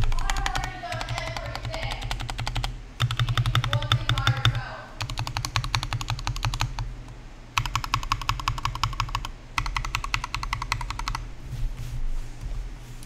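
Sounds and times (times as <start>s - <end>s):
fast typing on mechanical keyboard: 0.0s - 6.9s, 7.6s - 11.2s.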